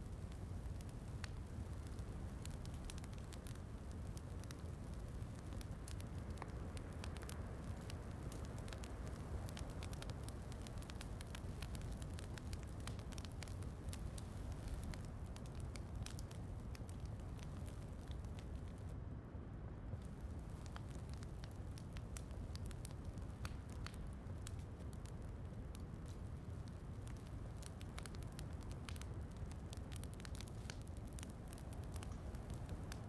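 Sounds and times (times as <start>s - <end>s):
wood fire crackling and popping: 0.0s - 18.9s, 19.9s - 33.0s
soft rain: 0.0s - 33.0s.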